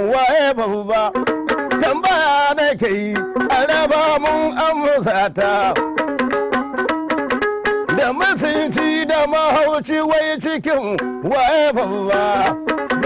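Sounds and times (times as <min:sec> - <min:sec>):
man singing: 0:00.0 - 0:05.8, 0:07.8 - 0:13.0
plucked lute notes: 0:00.0 - 0:13.0.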